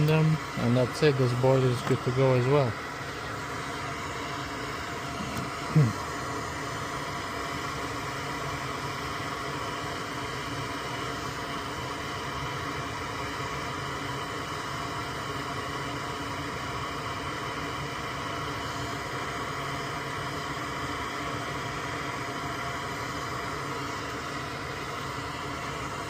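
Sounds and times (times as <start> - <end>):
extractor fan whirring: 0.0 - 26.0.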